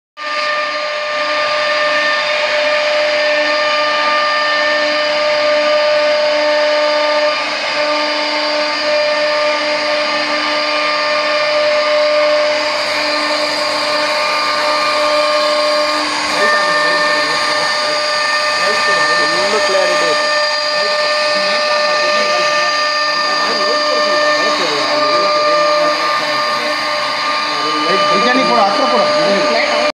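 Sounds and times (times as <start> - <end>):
cnc router spindle whine: 0.2 - 29.9
router bit cutting wood hiss: 0.2 - 29.9.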